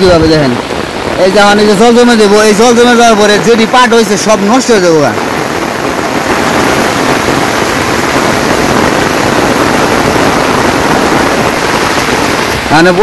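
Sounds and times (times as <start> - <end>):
heavy rain on leaves: 0.0 - 13.0.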